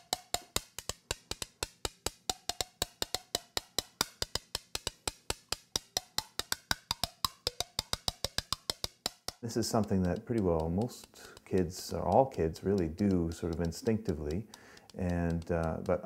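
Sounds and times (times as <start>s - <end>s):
rapid clicking instrument: 0.0s - 16.0s.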